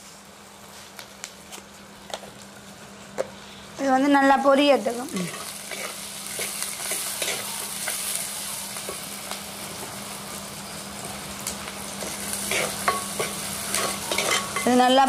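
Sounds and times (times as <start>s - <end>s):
oil sizzling in a clay pot: 0.0s - 15.0s.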